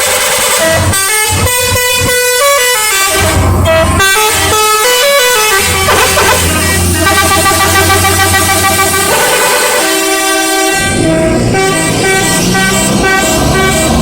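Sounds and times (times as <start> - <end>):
bus engine hum: 0.0 - 14.0
bus horn playing a tune: 0.0 - 14.0.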